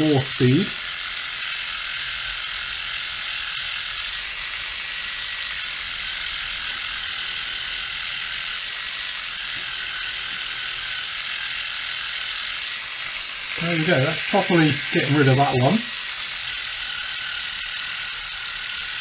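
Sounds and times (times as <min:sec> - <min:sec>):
reciprocating sander running: 0:00.0 - 0:19.0.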